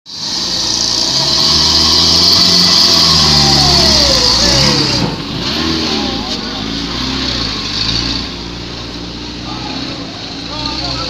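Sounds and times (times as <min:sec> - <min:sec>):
falling whine: 0:00.1 - 0:10.6
truck engine under load: 0:00.1 - 0:11.0.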